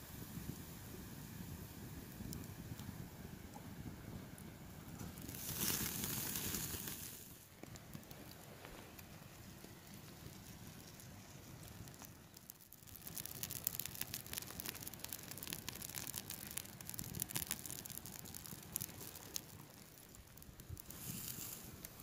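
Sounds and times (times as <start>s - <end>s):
faint steady hiss: 0.0s - 22.0s
wood fire crackling: 0.0s - 22.0s
sharp pops from fire: 0.2s - 22.0s.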